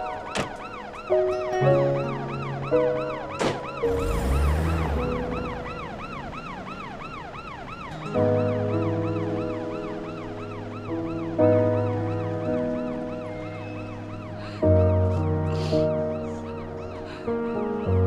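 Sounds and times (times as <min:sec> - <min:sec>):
background music with held chords: 0:00.0 - 0:18.0
siren wailing: 0:00.0 - 0:18.0.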